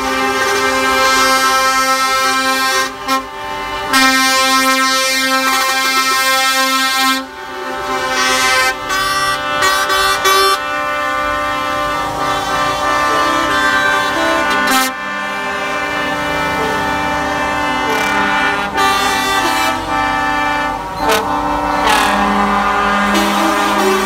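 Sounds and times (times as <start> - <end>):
passing lorry engines: 0.0 - 24.0
truck air horns blowing: 0.0 - 24.0.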